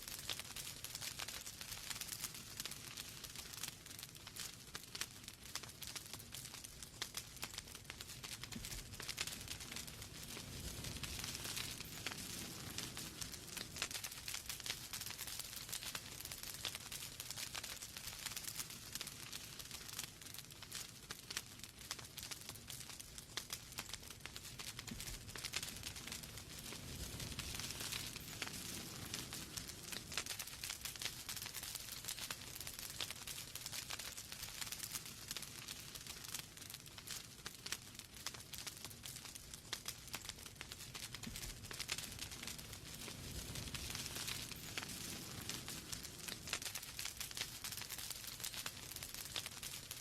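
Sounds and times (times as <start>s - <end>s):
fire crackling and popping: 0.0s - 50.0s
soft rush of flame: 0.0s - 50.0s.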